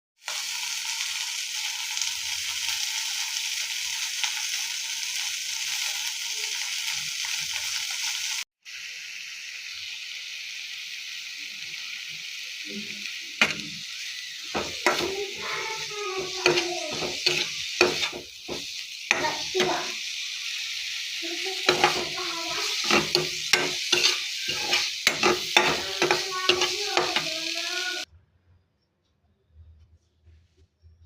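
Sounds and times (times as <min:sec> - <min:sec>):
chillies sizzling in hot oil: 0:00.2 - 0:28.1.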